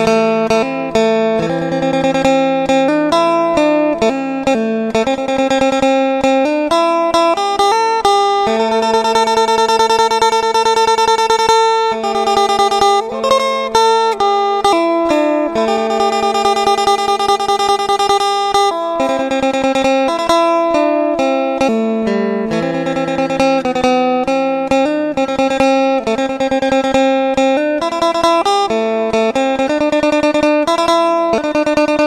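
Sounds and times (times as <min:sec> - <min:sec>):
fast plucked lute melody: 0:00.0 - 0:32.0.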